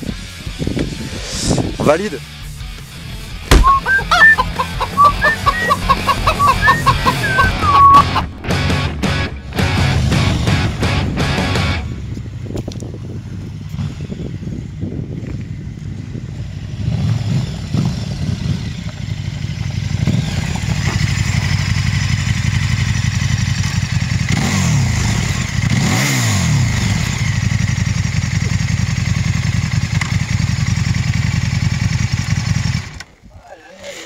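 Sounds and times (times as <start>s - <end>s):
motorcycle engine revving: 4.8s - 33.0s.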